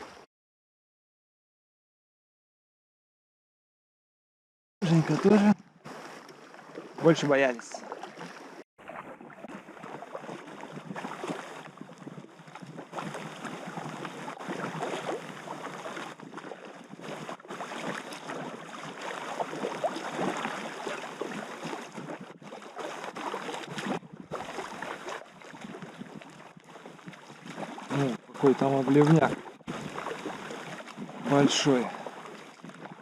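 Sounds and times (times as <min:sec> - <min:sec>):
river water rushing and splashing: 0:04.8 - 0:33.0.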